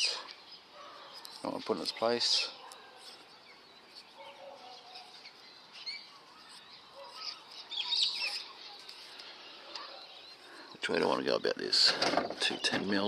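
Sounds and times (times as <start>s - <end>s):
birds chirping: 0.0s - 13.0s
faint outdoor hiss: 0.0s - 13.0s.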